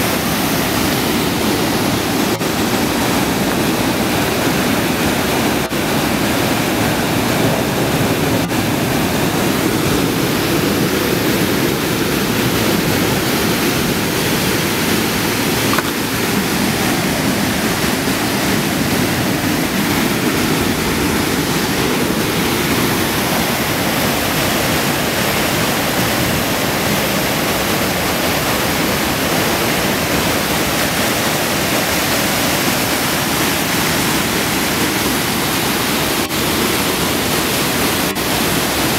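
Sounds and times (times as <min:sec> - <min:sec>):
floodwater pouring over a ledge: 0:00.0 - 0:38.9.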